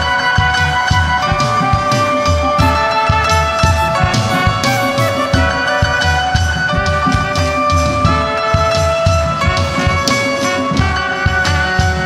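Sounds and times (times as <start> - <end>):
worship band music: 0.0 - 12.0.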